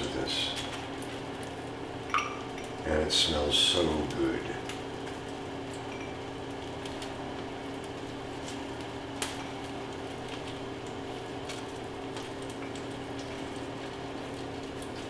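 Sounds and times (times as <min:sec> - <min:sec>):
steady appliance hum: 0:00.0 - 0:15.0.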